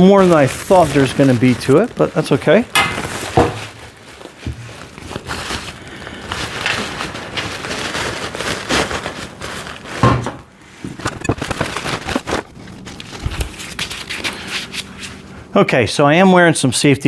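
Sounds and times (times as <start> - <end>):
packing material rustling: 0.0 - 15.5.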